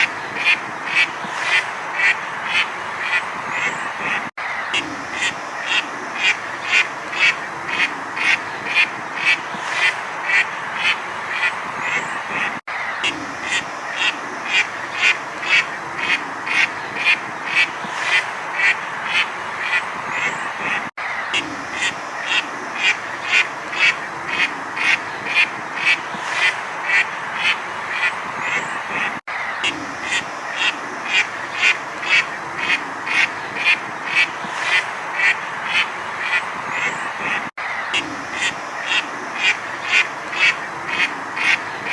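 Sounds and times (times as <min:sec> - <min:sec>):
continuous background din: 0:00.0 - 0:41.9
duck quacking: 0:00.0 - 0:41.9.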